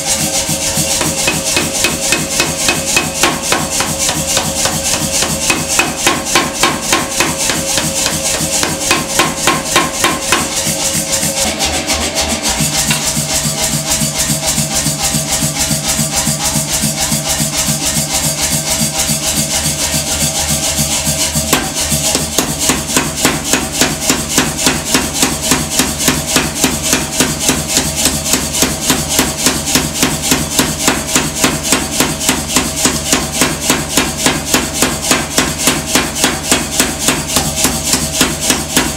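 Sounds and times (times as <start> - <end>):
power hammer pounding hot steel: 0.0 - 38.9.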